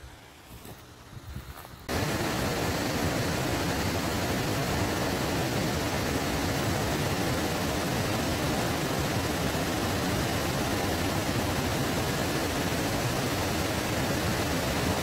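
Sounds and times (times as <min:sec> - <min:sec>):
waterfall rushing: 0:01.9 - 0:15.0.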